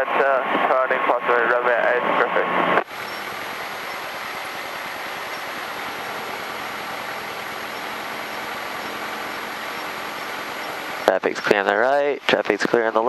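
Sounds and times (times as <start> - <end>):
airplane engine and propeller drone: 0.0 - 13.0.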